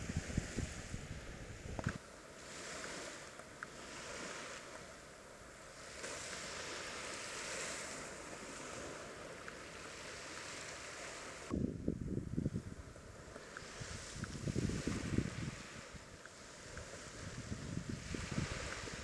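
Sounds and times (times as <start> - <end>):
light wind: 0.0 - 19.0
surf washing onto sand: 0.0 - 19.0.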